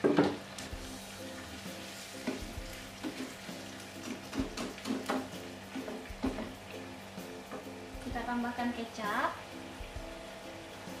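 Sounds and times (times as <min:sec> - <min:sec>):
sauce sizzling in frying pan: 0:00.0 - 0:11.0
soft background music: 0:00.0 - 0:11.0.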